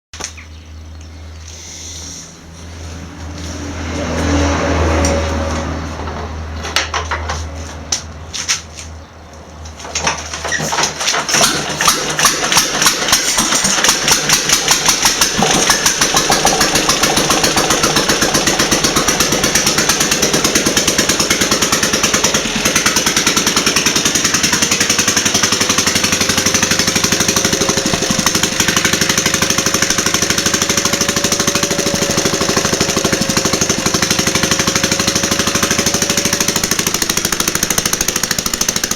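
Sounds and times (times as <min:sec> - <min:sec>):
engine starting and running: 0:00.2 - 0:38.9.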